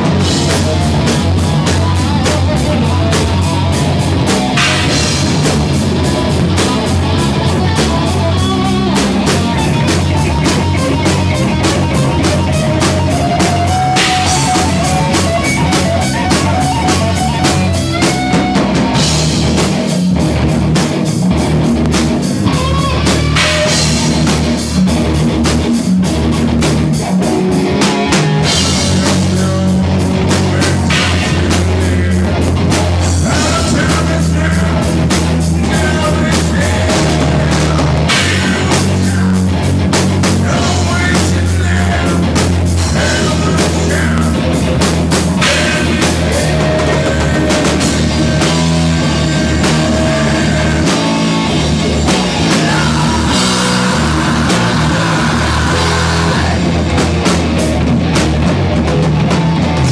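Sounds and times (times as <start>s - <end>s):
drum kit: 0.0s - 59.9s
heavy electric guitar: 0.0s - 59.9s.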